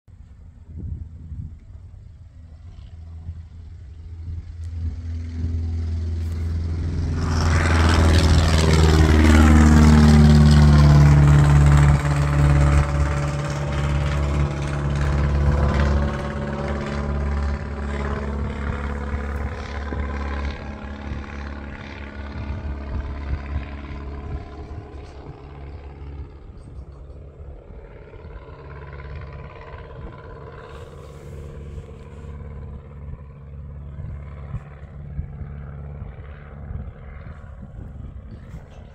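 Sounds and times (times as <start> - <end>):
propeller plane passing by: 0.1 - 38.9.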